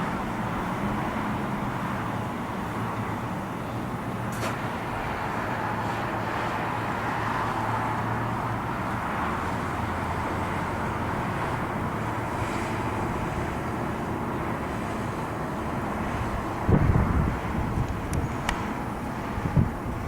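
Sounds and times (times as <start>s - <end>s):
distant aircraft engine drone: 0.0s - 20.0s.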